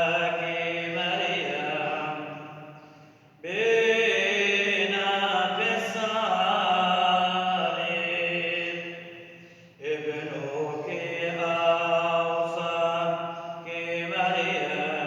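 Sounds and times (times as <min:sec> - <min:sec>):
man chanting prayer: 0:00.0 - 0:02.7, 0:03.4 - 0:15.0.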